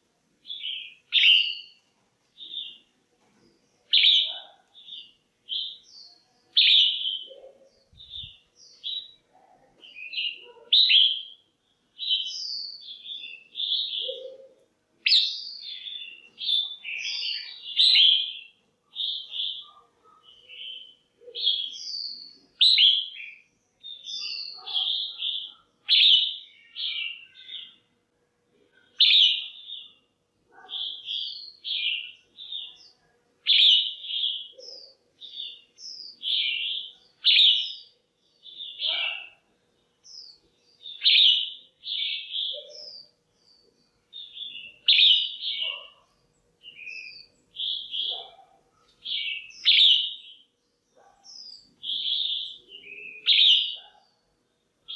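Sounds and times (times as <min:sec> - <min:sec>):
bird chirping: 0:00.0 - 0:27.9, 0:28.7 - 0:54.9.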